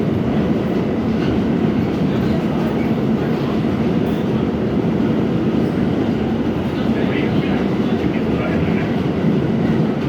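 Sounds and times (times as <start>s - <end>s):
subway wheels rumbling on rail: 0.0s - 10.0s.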